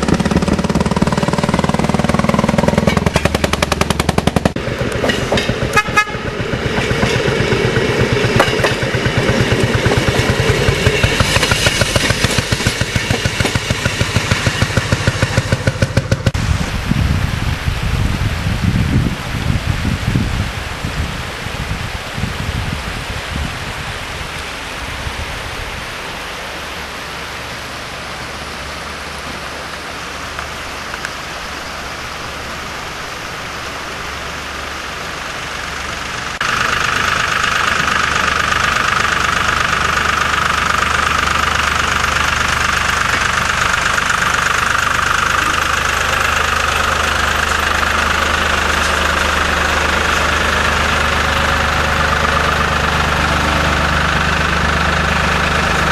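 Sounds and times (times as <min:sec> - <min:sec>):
engine idling with high hum: 0:00.0 - 0:16.6, 0:26.2 - 0:55.9
steady rushing noise: 0:00.0 - 0:55.9.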